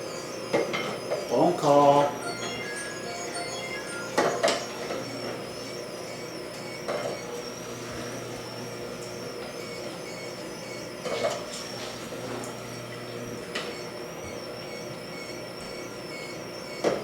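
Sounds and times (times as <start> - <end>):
juicer motor whining: 0.0 - 17.0.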